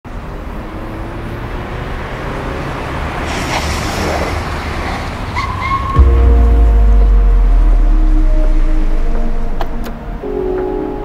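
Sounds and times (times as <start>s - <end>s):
car engine rumbling: 0.2s - 10.3s.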